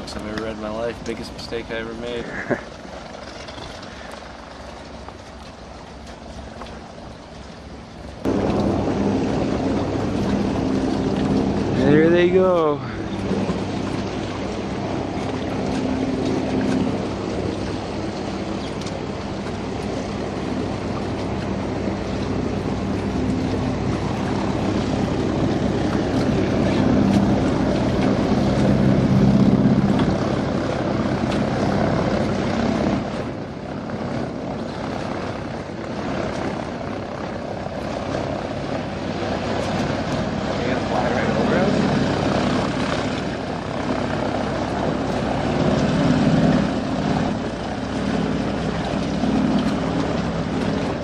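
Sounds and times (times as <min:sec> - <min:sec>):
propeller plane engine drone: 0:00.0 - 0:51.0.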